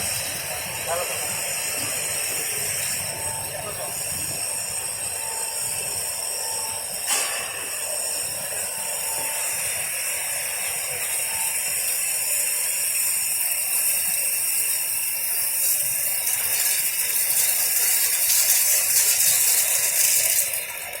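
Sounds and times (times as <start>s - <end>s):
machine hissing and whining: 0.0s - 21.0s.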